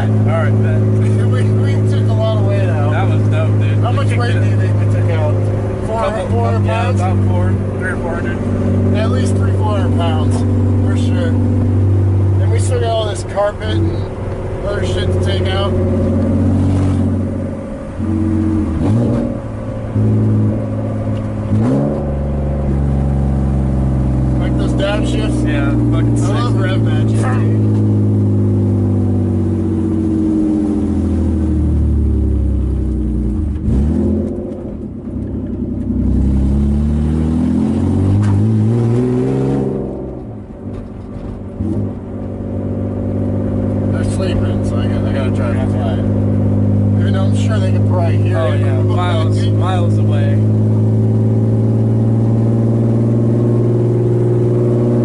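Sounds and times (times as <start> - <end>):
car engine downshifting: 0.0 - 55.0.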